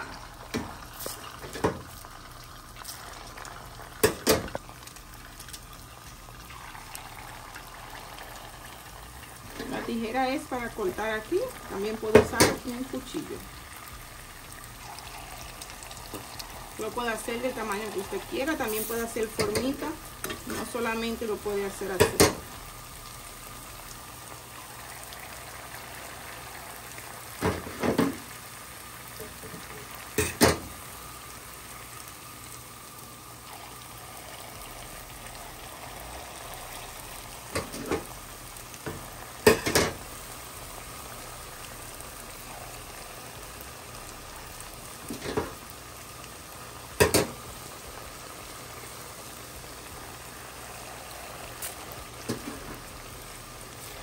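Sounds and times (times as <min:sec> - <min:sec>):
churros sizzling in oil: 0:00.0 - 0:54.0.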